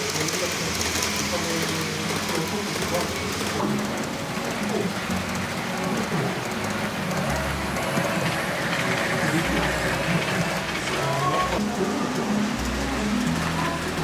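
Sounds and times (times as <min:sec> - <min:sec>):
model train wheels rolling on track: 0:00.0 - 0:14.0.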